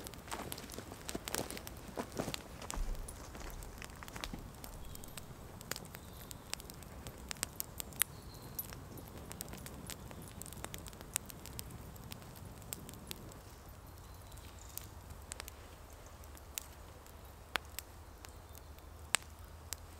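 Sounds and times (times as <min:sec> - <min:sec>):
campfire crackling: 0:00.0 - 0:19.9
sharp pops and snaps of fire: 0:00.0 - 0:19.9.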